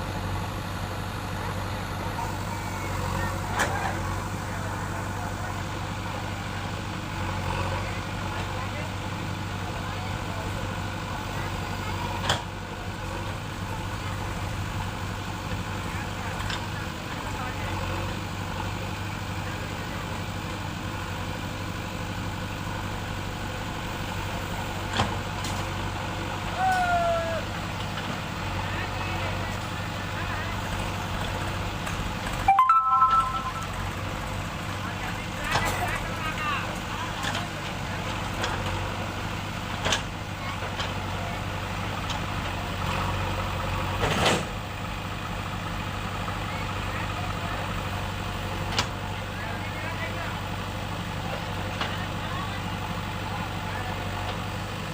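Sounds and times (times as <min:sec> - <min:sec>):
heavy diesel engine humming: 0:00.0 - 0:54.9.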